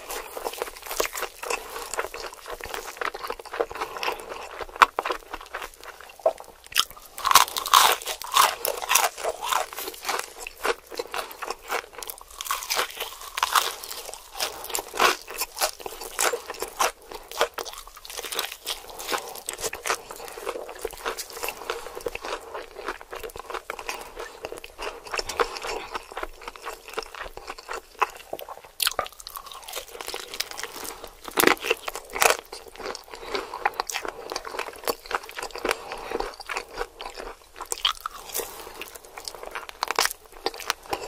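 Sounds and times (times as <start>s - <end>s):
crunching and chewing fried chicken: 0.0s - 41.0s.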